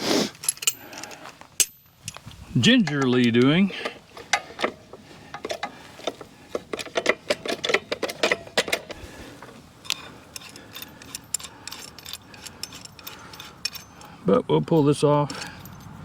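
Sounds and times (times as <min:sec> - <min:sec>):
lug wrench clicking: 0:00.4 - 0:14.2, 0:14.8 - 0:15.9.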